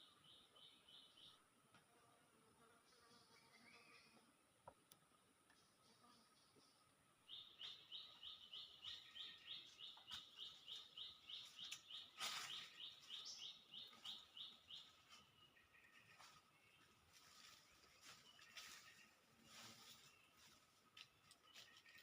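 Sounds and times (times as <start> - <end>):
bird chirping: 0.0 - 1.5, 2.8 - 4.2, 5.2 - 20.6.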